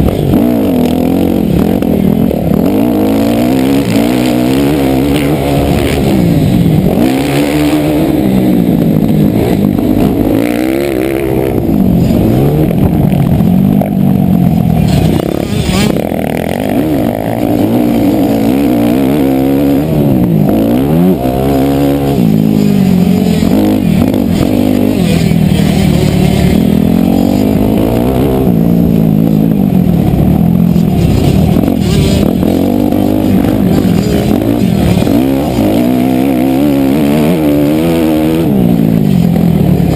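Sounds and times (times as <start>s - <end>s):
dirt bike engine racing: 0.0s - 39.9s.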